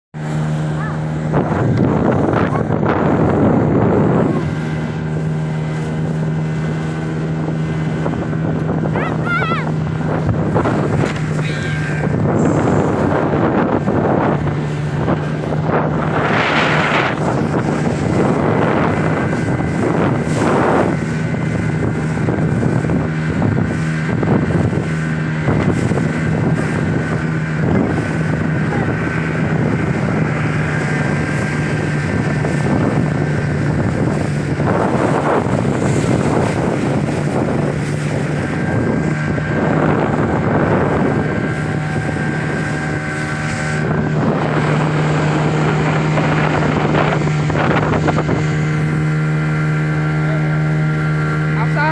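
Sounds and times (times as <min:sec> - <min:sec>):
motorboat engine running: 0:00.1 - 0:51.9
wind noise on microphone: 0:00.2 - 0:51.9.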